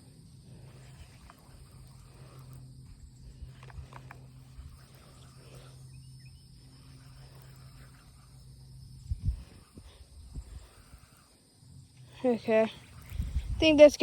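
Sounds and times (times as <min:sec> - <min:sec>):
insects chirring: 0:00.0 - 0:14.0
steady low hum: 0:00.0 - 0:14.0.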